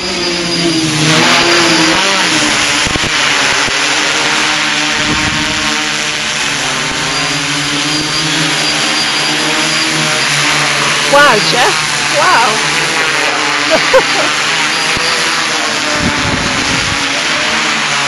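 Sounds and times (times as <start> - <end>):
quadcopter propellers buzzing: 0.0 - 18.0.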